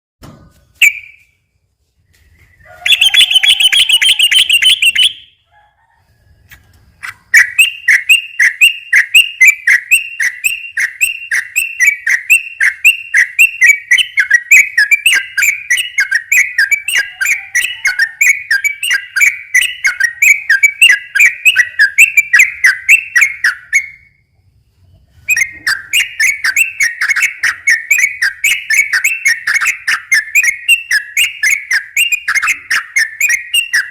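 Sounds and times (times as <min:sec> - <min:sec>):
bird singing chattering runs: 0:02.2 - 0:05.3, 0:07.3 - 0:23.9, 0:25.3 - 0:33.9.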